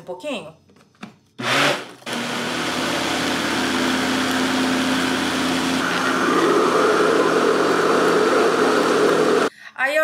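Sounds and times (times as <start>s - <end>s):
blender churning liquid: 1.4s - 9.5s.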